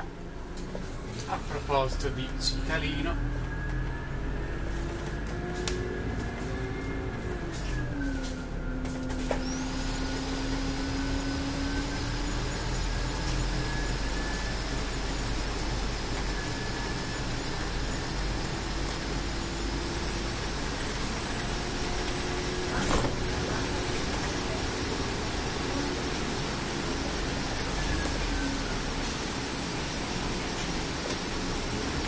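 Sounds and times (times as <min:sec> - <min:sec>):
bus engine and road noise: 0:00.0 - 0:32.0
faint rising whine: 0:00.0 - 0:32.0.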